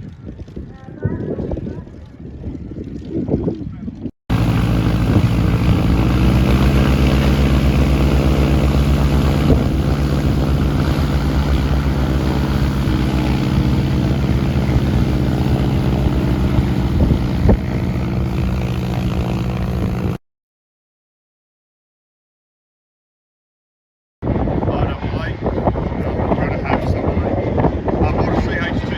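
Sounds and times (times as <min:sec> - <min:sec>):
aircraft propeller engine droning: 0:00.0 - 0:20.2, 0:24.2 - 0:28.9.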